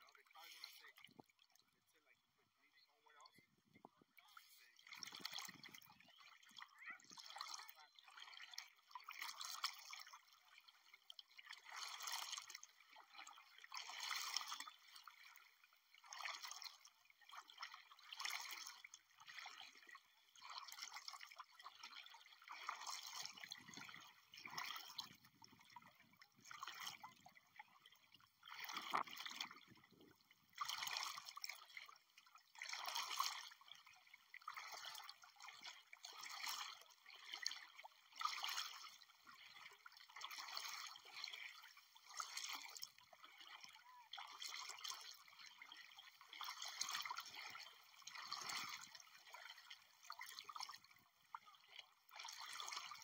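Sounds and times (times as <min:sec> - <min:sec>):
shallow water splashing: 0:00.0 - 0:02.1, 0:03.0 - 0:53.0.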